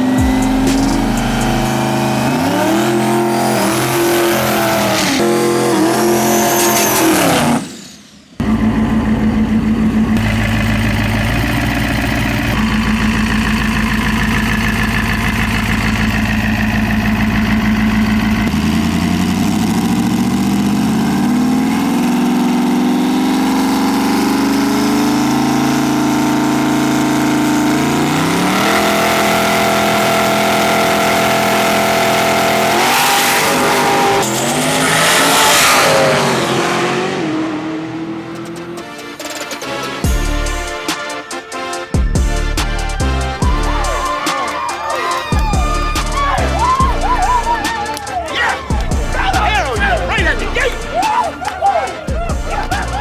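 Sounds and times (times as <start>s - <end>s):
dragster engine revving: 0.0s - 7.8s, 8.4s - 41.4s, 42.0s - 53.0s.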